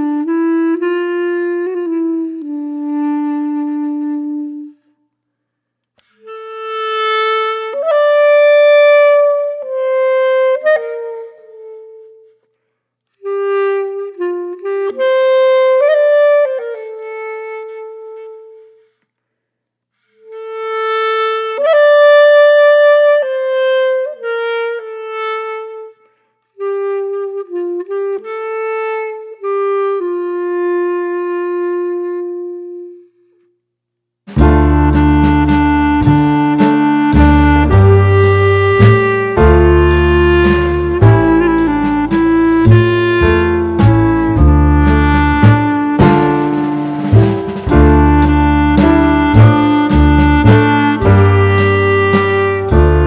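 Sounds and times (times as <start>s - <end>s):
solo woodwind melody: 0.0s - 5.2s, 5.9s - 19.1s, 20.0s - 33.6s, 34.3s - 53.0s.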